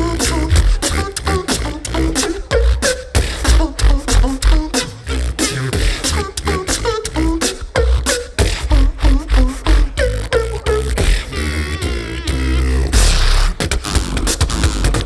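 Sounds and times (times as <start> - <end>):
sung gliding vocal tones: 0.0 - 13.3
beatboxing into a microphone: 0.0 - 15.0
deep bass line: 0.0 - 15.0.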